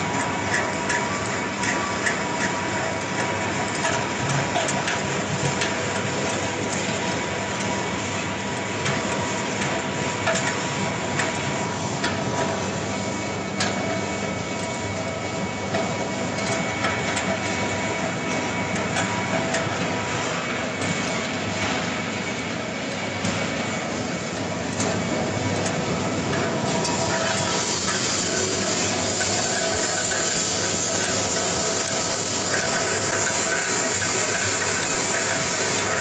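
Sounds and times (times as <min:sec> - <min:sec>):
pellet mill drone: 0:00.0 - 0:36.0.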